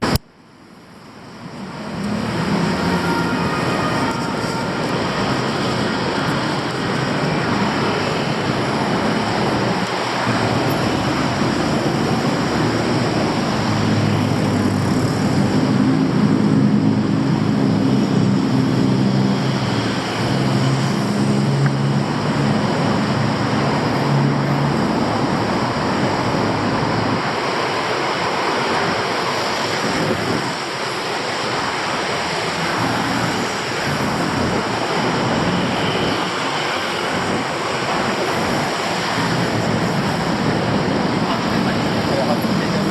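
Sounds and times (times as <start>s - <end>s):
street traffic: 0.0s - 42.9s
vehicle engine humming: 0.0s - 42.9s.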